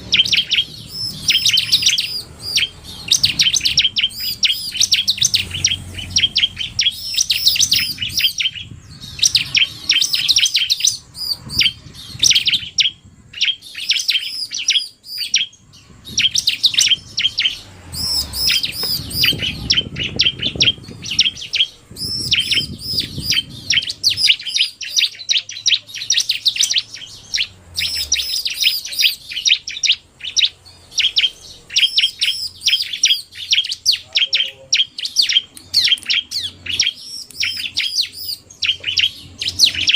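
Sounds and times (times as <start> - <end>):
birds sharp rapid chirps: 0.0 - 39.9.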